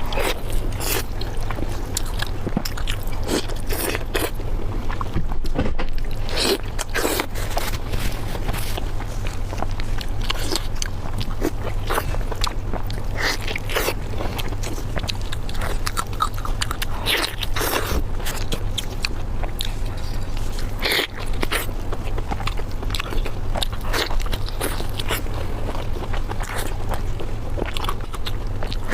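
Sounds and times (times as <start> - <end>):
biting and chewing food: 0.0 - 28.9
steady low hum: 0.0 - 28.9.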